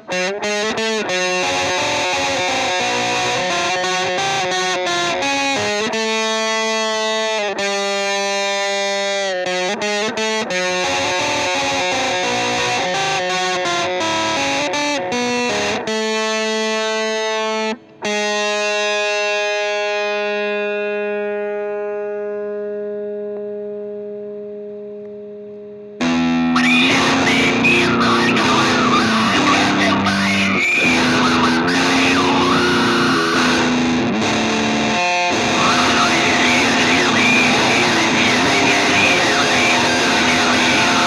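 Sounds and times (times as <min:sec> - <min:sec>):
distorted electric guitar: 0:00.0 - 0:41.0.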